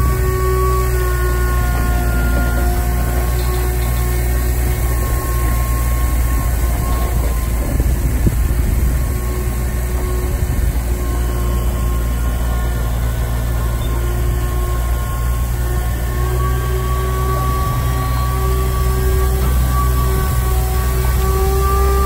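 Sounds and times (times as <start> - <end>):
faint steady whine: 0.0 - 22.0
truck engine hum: 0.0 - 22.0.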